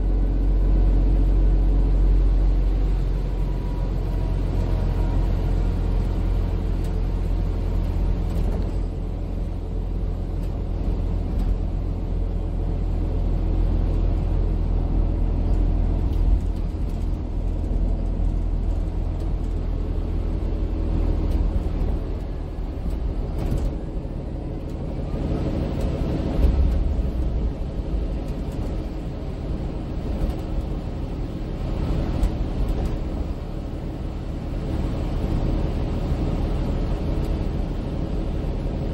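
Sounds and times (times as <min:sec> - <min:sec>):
bus engine rumble: 0:00.0 - 0:38.9
road noise: 0:00.0 - 0:38.9.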